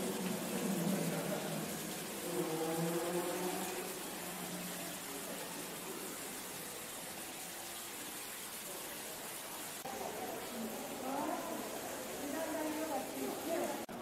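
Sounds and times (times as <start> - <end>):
faint voices: 0.0 - 7.7, 8.5 - 14.0
water rushing over stone steps: 0.0 - 14.0.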